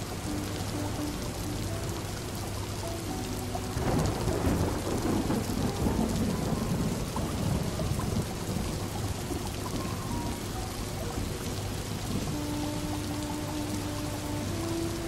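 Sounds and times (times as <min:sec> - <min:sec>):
distant thunder rumbling: 0:00.0 - 0:15.0
steady rain: 0:00.0 - 0:15.0.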